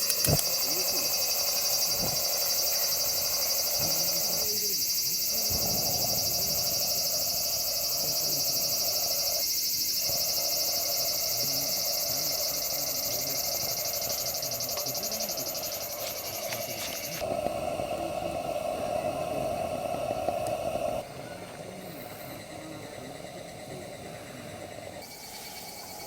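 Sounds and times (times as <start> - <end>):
insect high pulsing trill: 0.0 - 26.0
insect low drone: 0.0 - 26.0.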